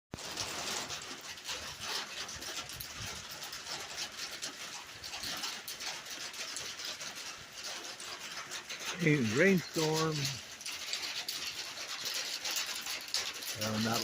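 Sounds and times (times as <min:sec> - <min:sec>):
rain on a tin roof: 0:00.1 - 0:14.0.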